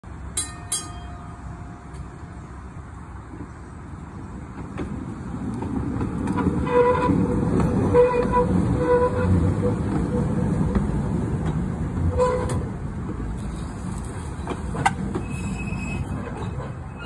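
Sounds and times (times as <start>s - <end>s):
streetcar rumbling on rails: 0.0s - 17.0s.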